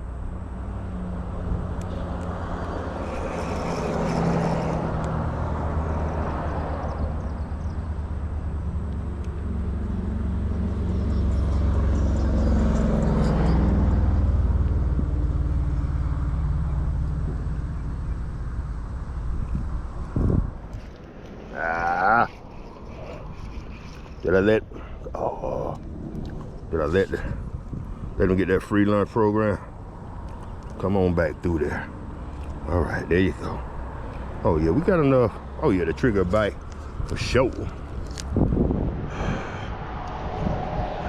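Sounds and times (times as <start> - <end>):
vehicles passing on road: 0.0 - 41.0.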